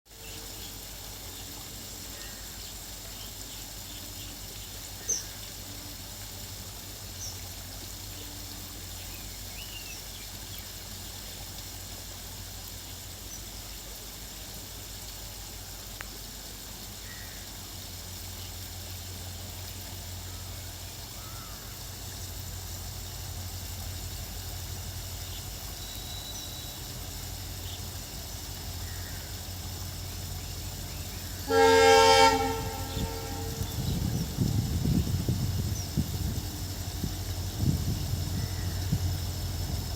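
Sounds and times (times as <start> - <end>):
low steady rumble: 0.2 - 39.9.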